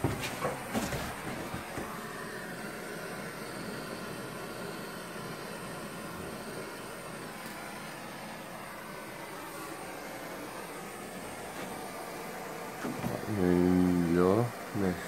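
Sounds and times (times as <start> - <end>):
blowtorch flame hissing: 0.0 - 15.0.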